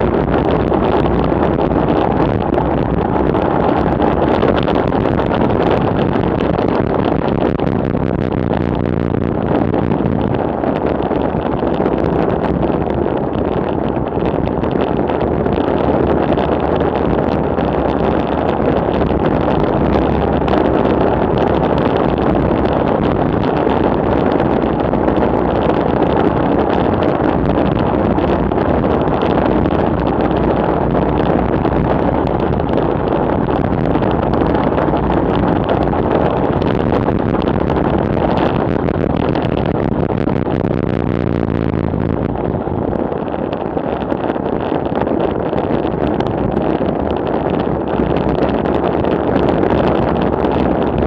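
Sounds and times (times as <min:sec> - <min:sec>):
wind rushing over microphone: 0:00.0 - 0:51.0.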